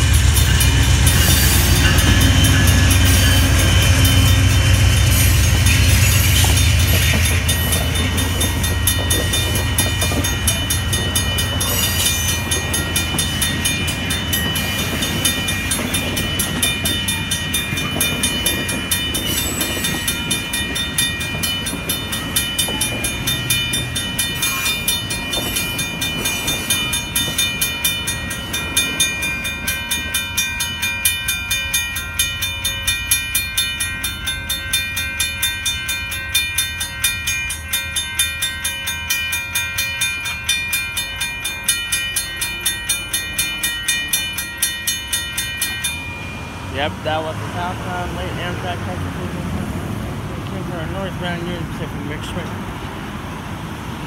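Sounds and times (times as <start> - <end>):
crossing warning bell ringing: 0.0 - 54.0
train wheels rumbling: 0.0 - 54.0.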